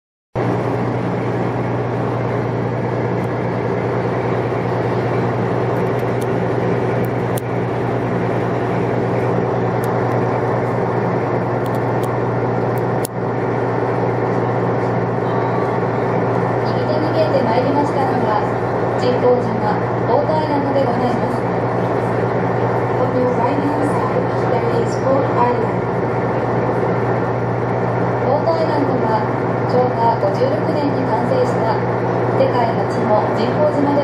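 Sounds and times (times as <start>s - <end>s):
boat engine drone: 0.4s - 34.0s.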